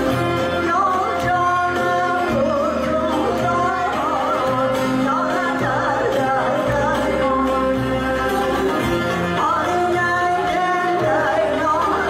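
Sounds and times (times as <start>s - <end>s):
folk ensemble with lutes: 0.0s - 12.0s
woman singing folk song: 0.0s - 12.0s.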